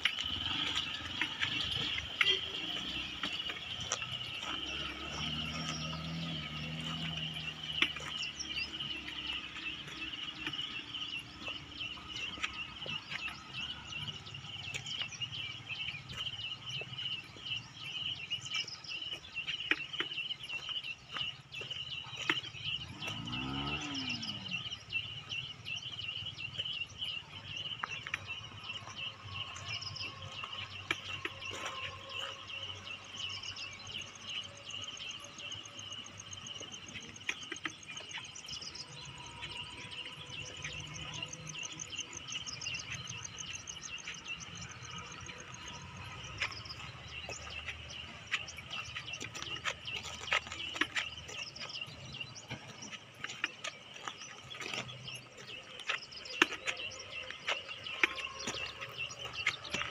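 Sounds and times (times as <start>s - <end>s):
insects droning: 0.0s - 59.9s
motorcycle engine: 0.0s - 59.9s.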